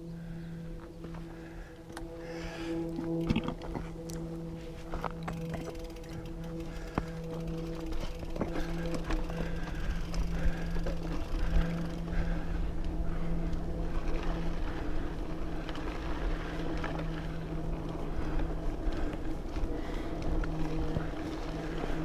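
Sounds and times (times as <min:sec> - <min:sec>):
bike tyre rumble on trail: 0:00.0 - 0:22.0
steady low hum: 0:00.0 - 0:22.0.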